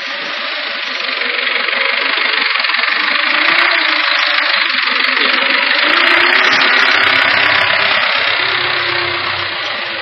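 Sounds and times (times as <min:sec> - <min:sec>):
forklift engine running: 0:00.0 - 0:10.0.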